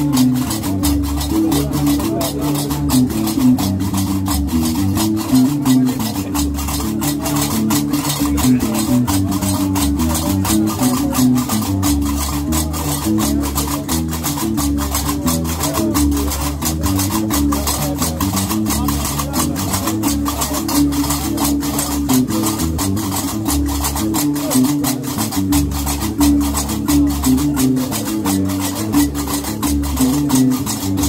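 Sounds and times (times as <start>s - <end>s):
plucked bass lute melody: 0.0s - 31.0s.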